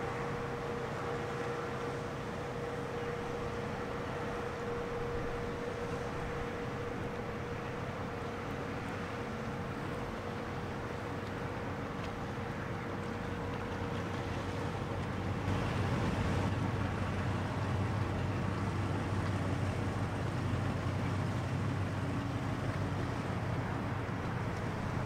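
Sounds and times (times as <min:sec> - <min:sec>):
ship engines rumbling: 0:00.0 - 0:25.0.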